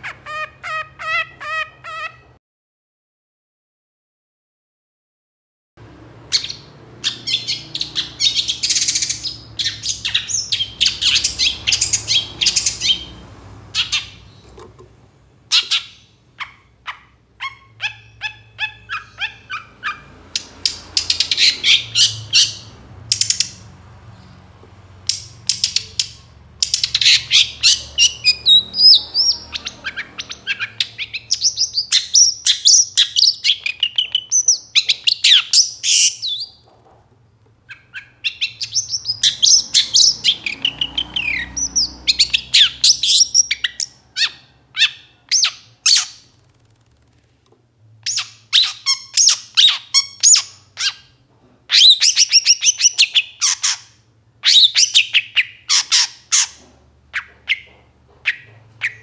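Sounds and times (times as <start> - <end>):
bird singing harsh chatter: 0.0 - 2.4, 6.3 - 14.6, 15.5 - 24.4, 25.0 - 36.7, 37.7 - 46.7, 48.1 - 59.0.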